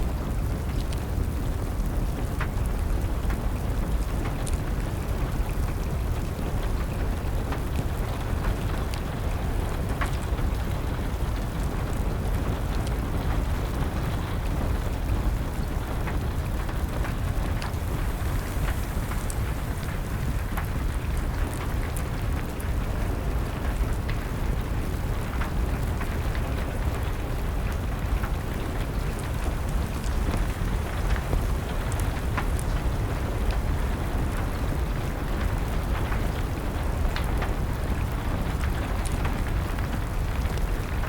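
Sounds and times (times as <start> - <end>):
fire popping and crackling: 0.0 - 41.0
steady rain: 0.0 - 41.0.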